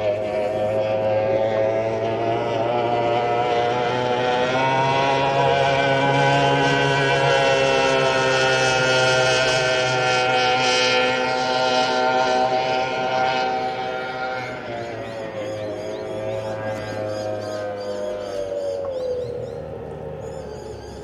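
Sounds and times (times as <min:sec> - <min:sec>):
powerboat engine high-pitched whine: 0:00.0 - 0:21.0.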